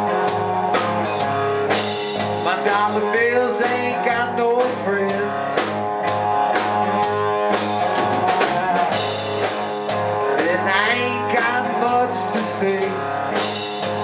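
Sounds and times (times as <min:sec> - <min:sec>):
rock band instrumental: 0:00.0 - 0:14.0.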